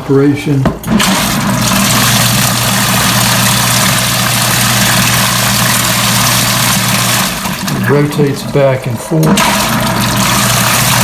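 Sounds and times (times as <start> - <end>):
washing machine motor hum: 0.0 - 11.0
water churning: 0.8 - 11.0.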